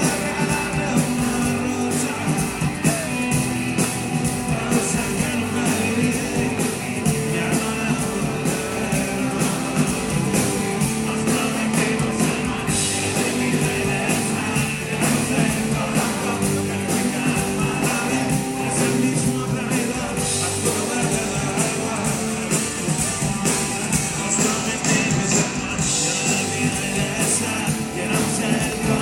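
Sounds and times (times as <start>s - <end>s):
drum kit beat: 0.0s - 29.0s
electric guitars: 0.0s - 29.0s
rock band playing live: 0.0s - 29.0s.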